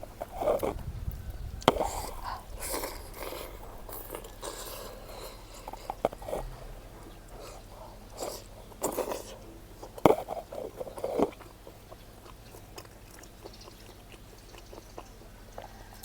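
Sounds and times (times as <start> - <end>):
person chewing and biting: 0.0 - 16.0.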